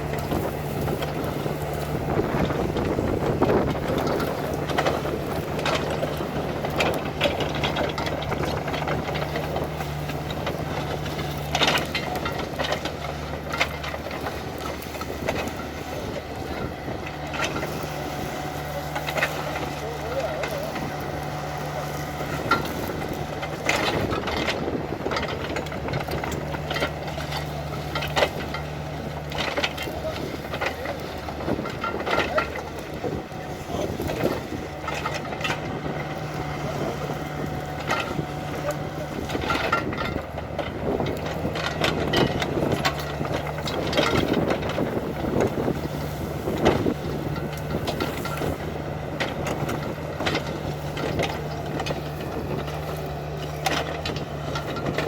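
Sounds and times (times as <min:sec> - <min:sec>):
excavator diesel engine: 0:00.0 - 0:55.0
wood cracking and snapping: 0:00.0 - 0:55.0.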